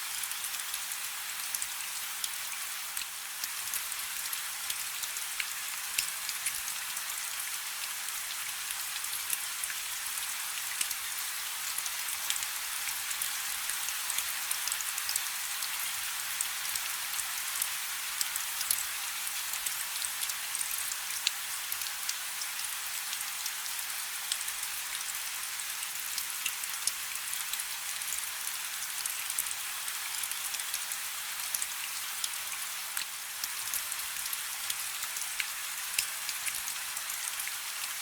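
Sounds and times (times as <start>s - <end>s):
light rain: 0.0s - 38.0s.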